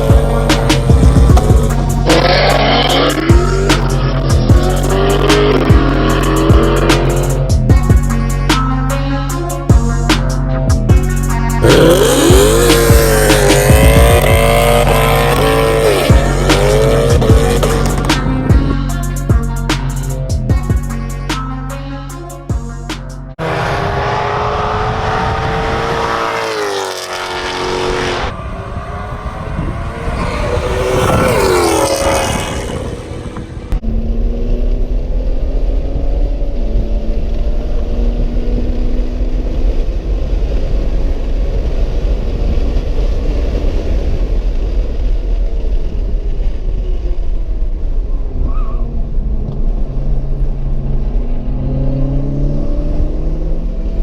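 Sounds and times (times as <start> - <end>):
sports car engines revving: 0.0 - 8.4, 9.7 - 20.3, 23.3 - 41.4, 47.8 - 54.0
road and wind rumble: 0.0 - 54.0.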